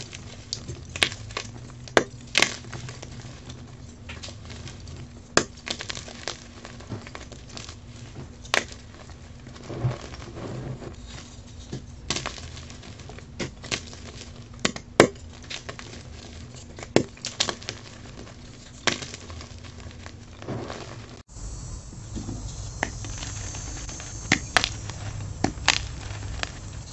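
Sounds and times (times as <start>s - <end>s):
chalk crunching and snapping: 0.0s - 21.3s, 21.9s - 26.9s
gritty rustle of powder: 0.0s - 26.9s.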